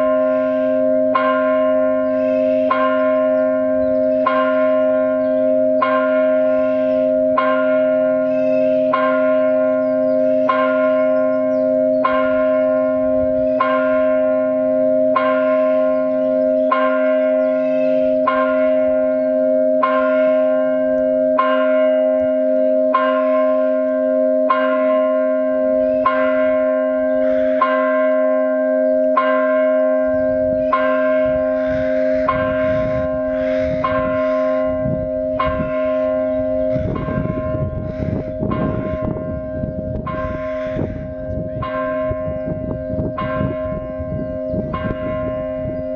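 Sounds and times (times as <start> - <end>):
church bell tolling: 0.0 - 45.9.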